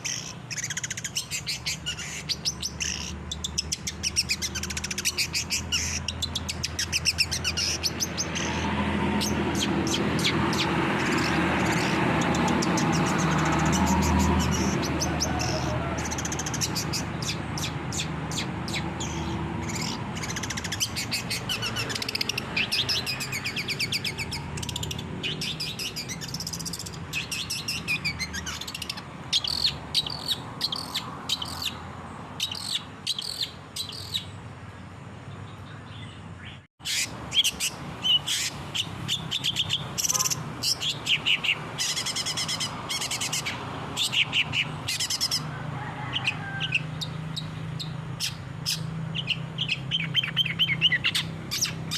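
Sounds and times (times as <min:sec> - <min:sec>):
bird singing chattering trills: 0:00.0 - 0:34.4, 0:35.3 - 0:45.5, 0:46.2 - 0:51.9.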